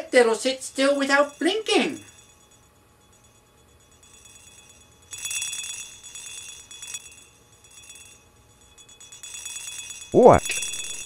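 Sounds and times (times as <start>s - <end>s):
bright bell-like jingle: 0.4s - 11.0s.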